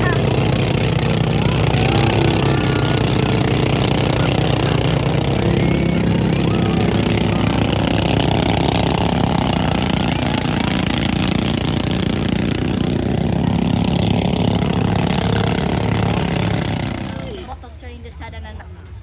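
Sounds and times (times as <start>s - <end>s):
motor engine running steadily: 0.0s - 19.0s.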